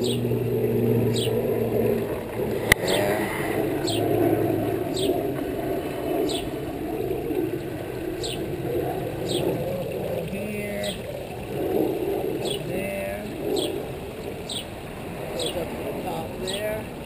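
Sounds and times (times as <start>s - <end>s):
waterfall running over rocks: 0.0s - 17.0s.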